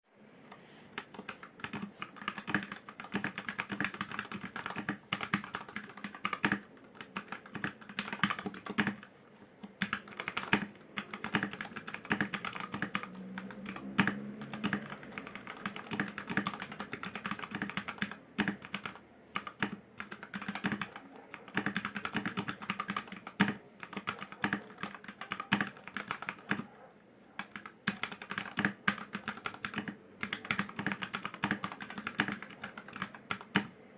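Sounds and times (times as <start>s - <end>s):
mechanical keyboard typing: 1.0s - 26.7s, 27.4s - 33.8s.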